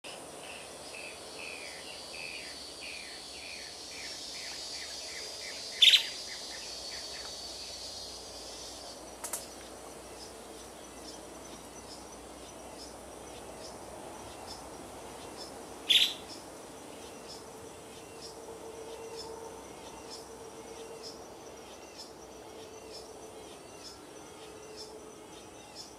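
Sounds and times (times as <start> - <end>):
insect buzz: 0.1 - 25.9
bird singing: 0.5 - 25.9.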